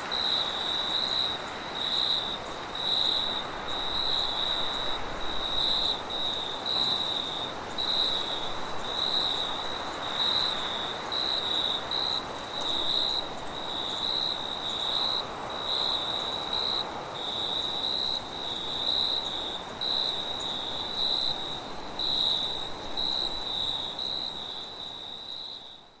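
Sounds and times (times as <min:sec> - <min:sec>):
wind hiss: 0:00.0 - 0:25.3
crickets chirping: 0:00.0 - 0:26.0.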